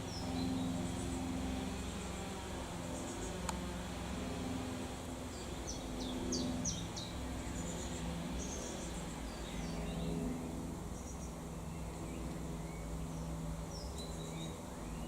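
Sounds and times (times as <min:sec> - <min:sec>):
low hum of background noise: 0:00.0 - 0:15.0.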